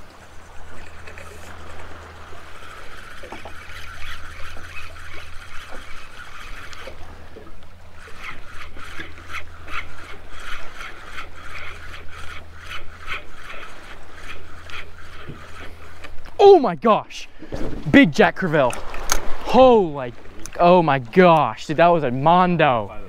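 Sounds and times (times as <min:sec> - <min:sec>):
fishing reel whirring: 0:00.0 - 0:16.4, 0:18.4 - 0:20.6
steady low hum: 0:00.0 - 0:23.0.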